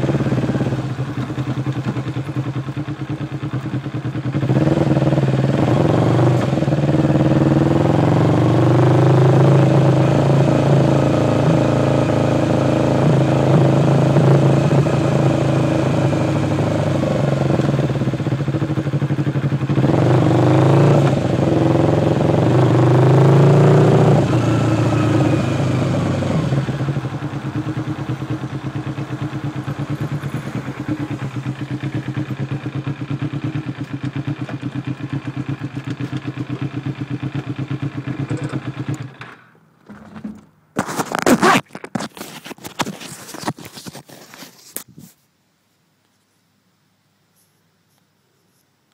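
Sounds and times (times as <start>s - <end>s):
motorcycle engine revving: 0.0s - 39.5s.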